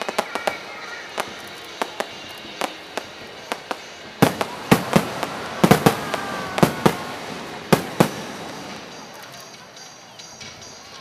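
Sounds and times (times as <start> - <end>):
fireworks shells bursting: 0.0 - 10.8.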